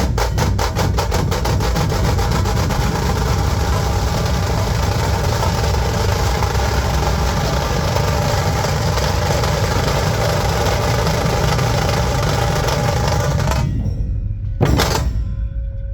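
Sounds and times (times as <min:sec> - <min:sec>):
loud drum beat: 0:00.0 - 0:13.8, 0:14.6 - 0:15.2
dhol and tasha drums rolling: 0:00.0 - 0:15.3.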